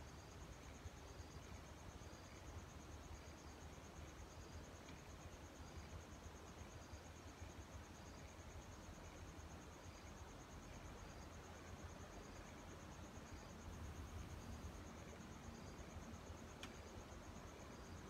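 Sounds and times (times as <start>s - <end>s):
insect trill: 0.0s - 18.0s.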